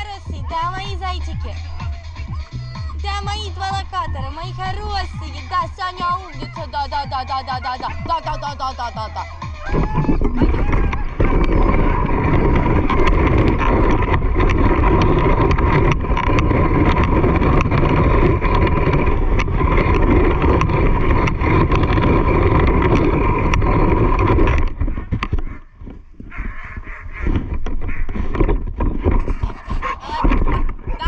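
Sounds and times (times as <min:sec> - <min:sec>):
rumble and rattle of movement: 0:00.0 - 0:31.0
wind buffeting microphone: 0:00.0 - 0:31.0.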